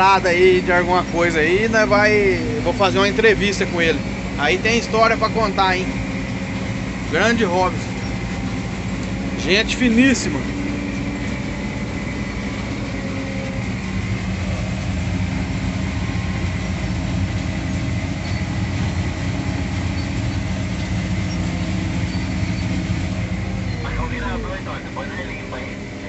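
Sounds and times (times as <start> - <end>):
cutting machinery: 0.0 - 26.0
diesel engine under load: 0.0 - 26.0.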